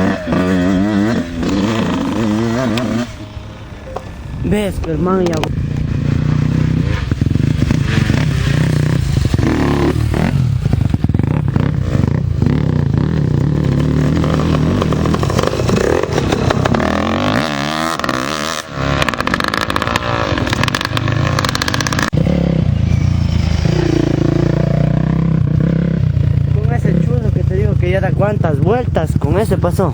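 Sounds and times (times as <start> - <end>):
racing motorcycle engines revving: 0.0 - 29.9.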